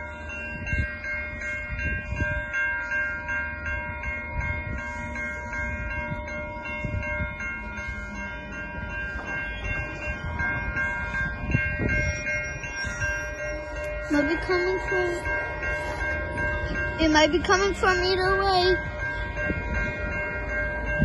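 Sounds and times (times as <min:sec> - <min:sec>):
railroad crossing bell ringing: 0:00.0 - 0:21.0.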